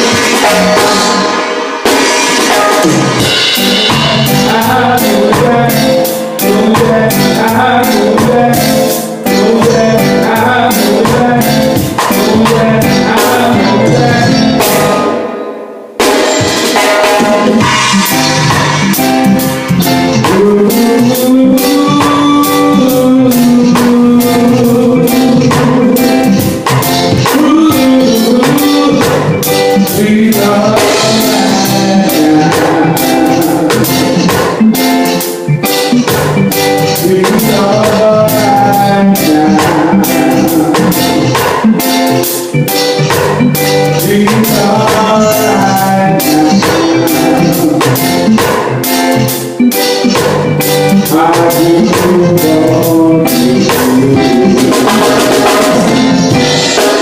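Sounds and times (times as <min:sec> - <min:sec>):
band playing a song: 0:00.0 - 0:57.0
drum kit beat with cymbals: 0:00.0 - 0:57.0
singer holding sliding notes: 0:00.0 - 0:57.0.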